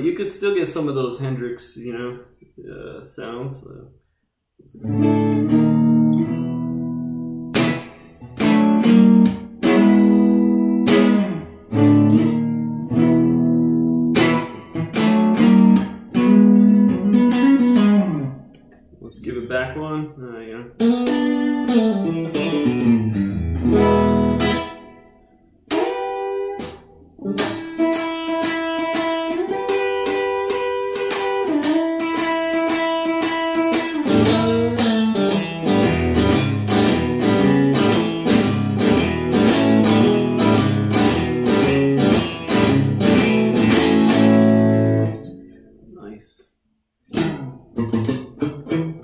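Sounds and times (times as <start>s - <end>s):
electric guitar playing: 4.6s - 19.0s, 20.7s - 46.0s, 47.1s - 49.0s.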